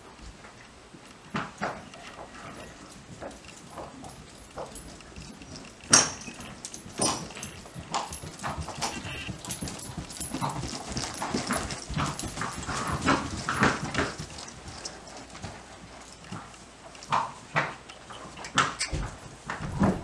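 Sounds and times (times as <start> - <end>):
horse hoofbeats on dirt: 0.0 - 20.0.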